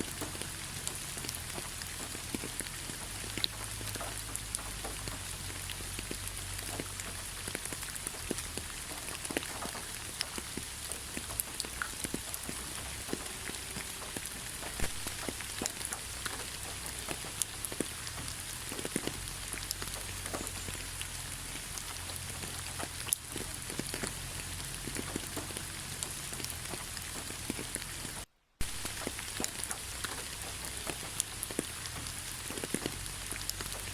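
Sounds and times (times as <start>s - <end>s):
rain falling on forest: 0.0s - 33.9s.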